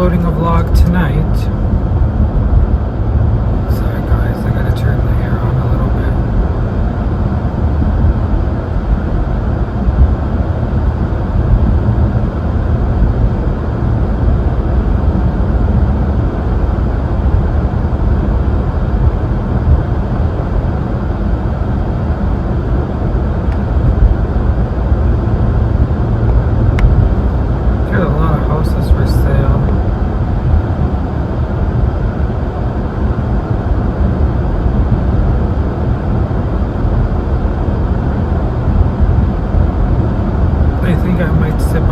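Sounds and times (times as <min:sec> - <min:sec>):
car cabin road and engine noise: 0:00.0 - 0:41.9
air conditioning blower: 0:00.5 - 0:41.9.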